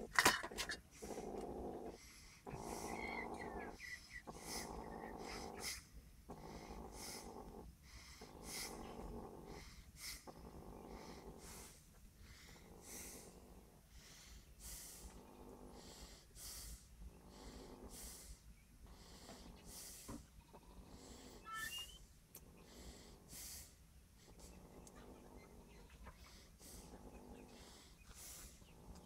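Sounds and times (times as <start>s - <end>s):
cat purring rumble: 0.8s - 21.5s, 22.4s - 29.0s
hissy cat breaths: 0.9s - 22.0s, 22.6s - 25.0s, 26.1s - 29.0s.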